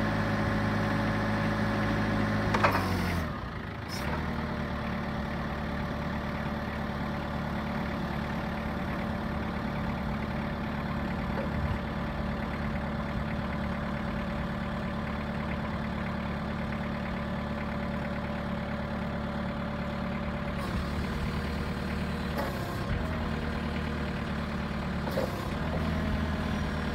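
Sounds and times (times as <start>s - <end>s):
forklift diesel engine running: 0.0s - 26.9s.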